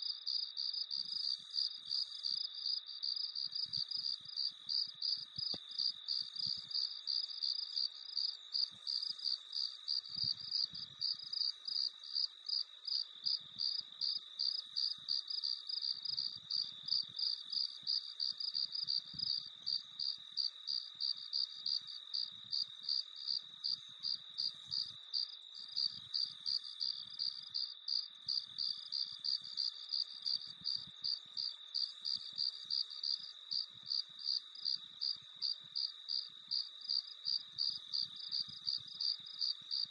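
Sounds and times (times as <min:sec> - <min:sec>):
continuous high insect trill: 0:00.0 - 0:39.9
crickets chirping: 0:00.0 - 0:39.9.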